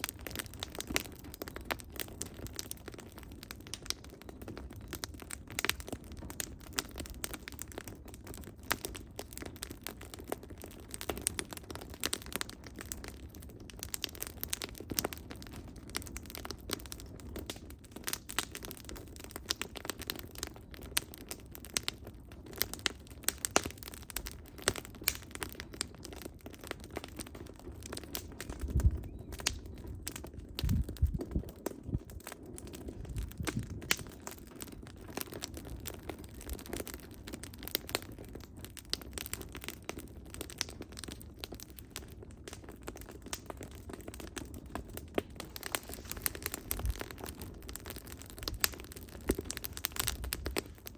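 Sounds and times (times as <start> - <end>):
firewood crackling and popping: 0.0 - 50.9
low rumble of flame: 0.0 - 50.9.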